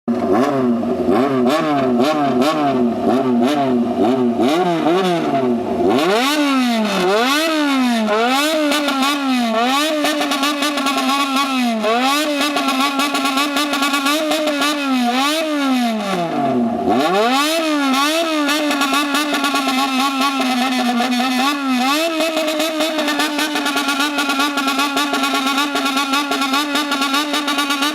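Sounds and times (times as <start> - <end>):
motorcycle engine revving rhythmically: 0.1 - 27.9.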